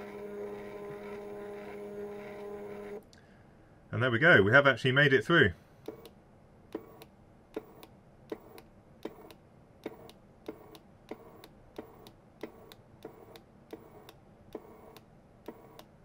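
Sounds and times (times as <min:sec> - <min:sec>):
solder feeder clicking and whirring: 0:00.0 - 0:03.1, 0:05.8 - 0:16.0.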